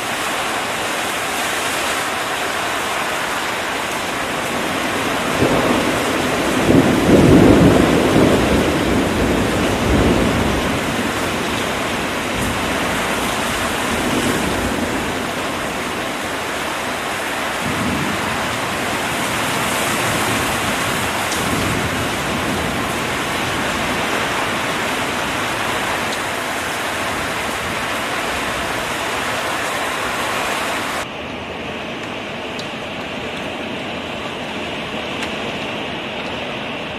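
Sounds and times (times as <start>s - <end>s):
heavy rain pouring: 0.0s - 36.9s
thunder rumbling: 3.1s - 36.9s.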